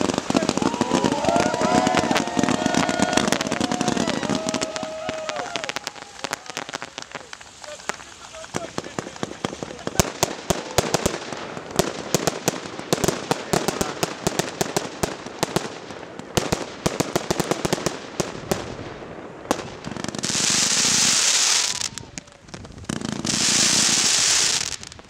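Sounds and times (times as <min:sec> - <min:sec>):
fireworks bangs and crackling: 0:00.0 - 0:25.0
fireworks hissing: 0:00.0 - 0:25.0.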